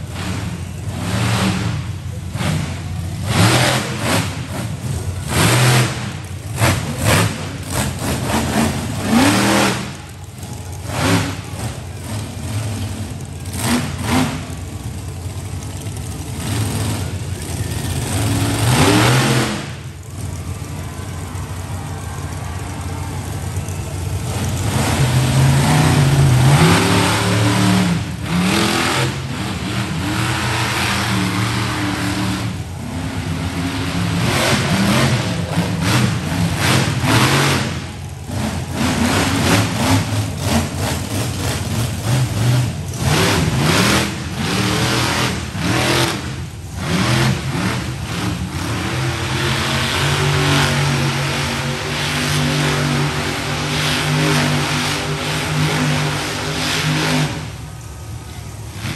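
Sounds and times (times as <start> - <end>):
monster truck engine revving: 0.0 - 58.9.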